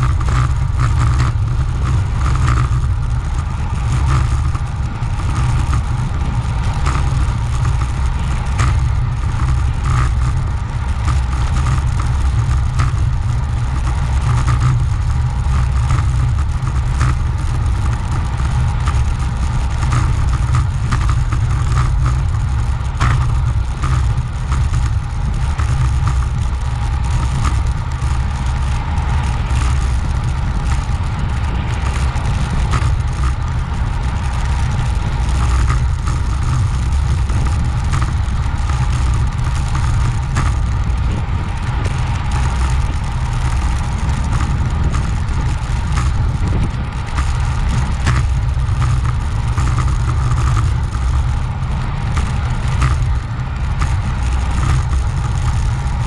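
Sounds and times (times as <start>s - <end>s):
bike tyre and road noise: 0.0s - 56.0s
wind buffeting microphone: 0.0s - 56.0s.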